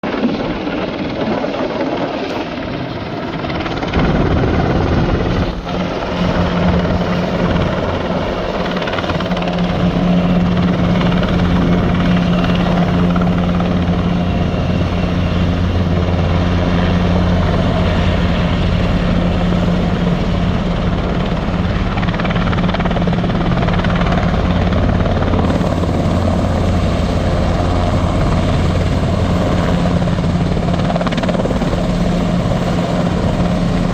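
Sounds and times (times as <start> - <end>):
helicopter roaring: 0.0 - 33.9.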